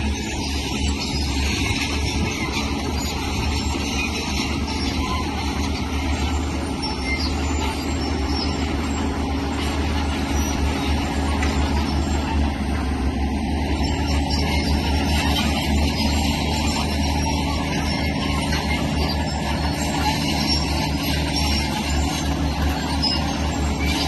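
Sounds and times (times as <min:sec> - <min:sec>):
heavy machinery diesel engine: 0:00.0 - 0:24.0.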